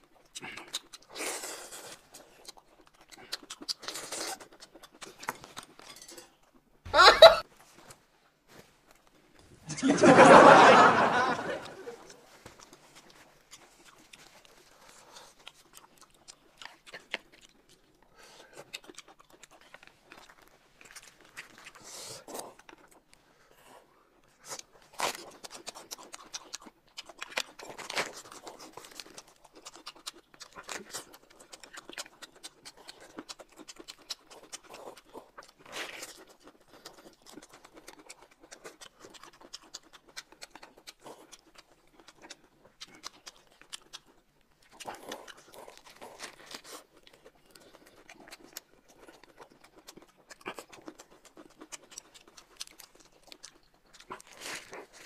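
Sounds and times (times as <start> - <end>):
chewing and crunching food: 0.0 - 6.8, 7.4 - 55.0.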